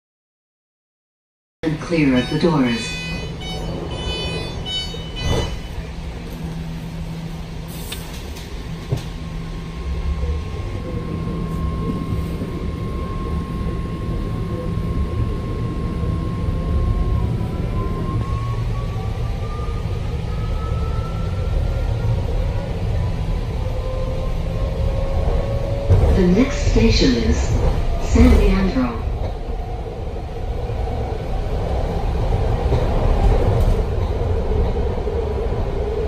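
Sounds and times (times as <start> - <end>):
train rumble: 1.6 - 36.0.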